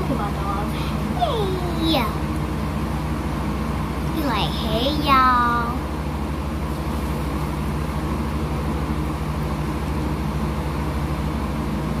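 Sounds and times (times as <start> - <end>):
low pulsing mechanical hum: 0.0 - 12.0.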